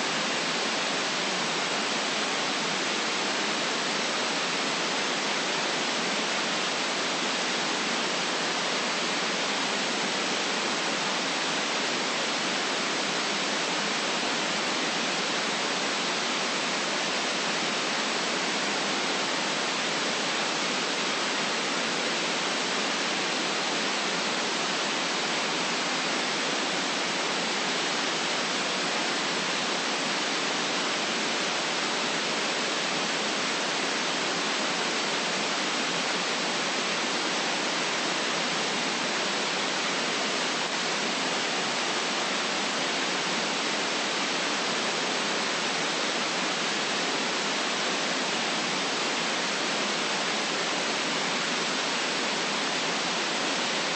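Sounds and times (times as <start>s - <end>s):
steady white noise hiss: 0.0s - 53.9s.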